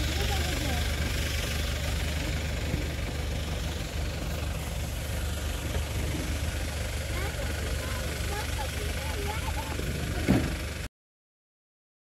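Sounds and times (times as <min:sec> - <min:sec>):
vehicle engine idling: 0:00.0 - 0:10.9.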